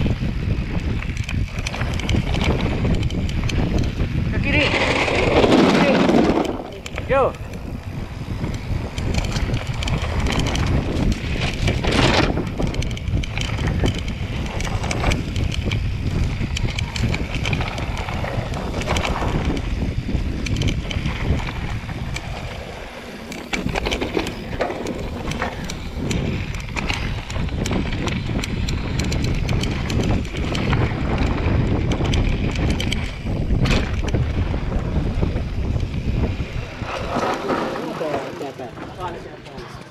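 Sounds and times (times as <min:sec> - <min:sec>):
bike rattling over bumps: 0:00.0 - 0:39.9
bike tyres rolling on dirt: 0:00.0 - 0:39.9
wind buffeting microphone: 0:00.0 - 0:39.9.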